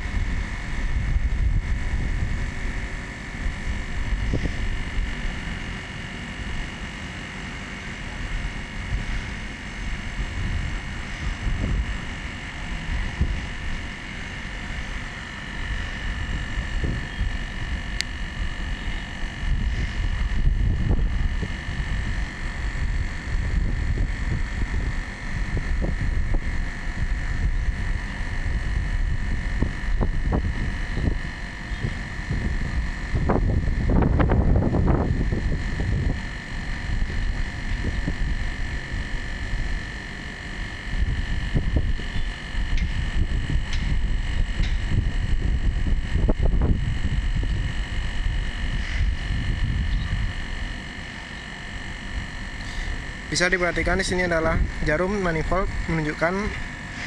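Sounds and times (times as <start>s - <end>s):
air conditioner unit running: 0.0s - 57.0s.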